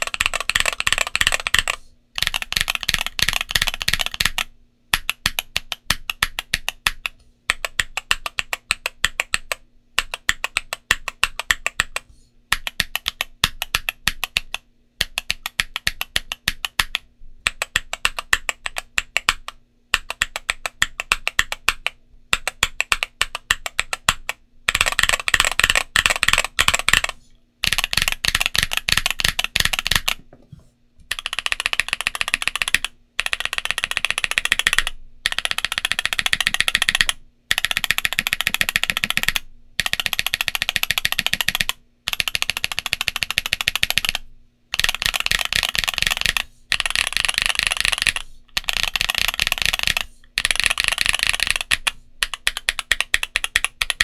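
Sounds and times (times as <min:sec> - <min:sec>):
mechanical keyboard typing: 0:00.0 - 0:30.2, 0:31.1 - 0:54.0.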